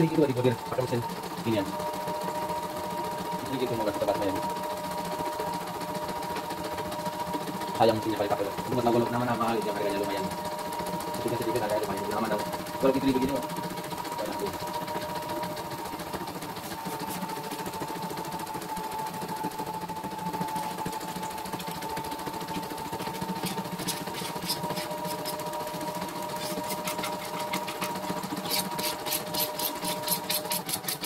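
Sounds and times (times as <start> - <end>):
embroidery machine stitching: 0.0 - 31.0.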